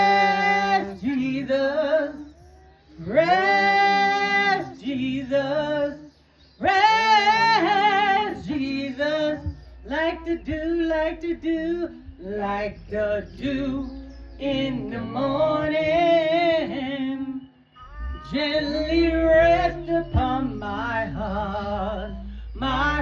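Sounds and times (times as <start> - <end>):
low hum: 0.0 - 23.0
woman singing slow song: 0.0 - 23.0.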